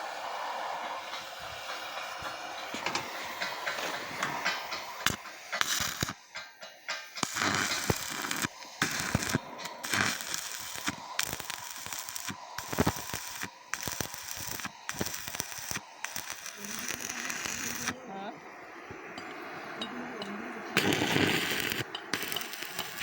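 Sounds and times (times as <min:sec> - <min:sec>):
welding arc crackling: 0:00.2 - 0:18.3, 0:18.9 - 0:23.0.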